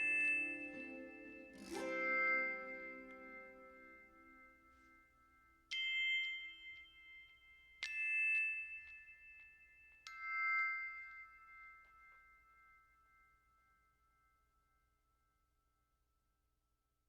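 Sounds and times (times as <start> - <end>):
bell-like metallic notes ringing: 0.0 - 14.6.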